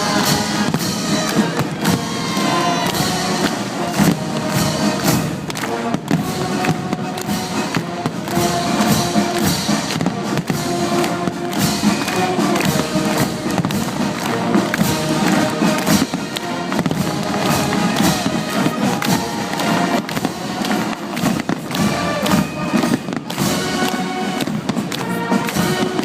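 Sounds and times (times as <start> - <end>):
fireworks bursting: 0.0 - 26.0
loud music: 0.0 - 26.0.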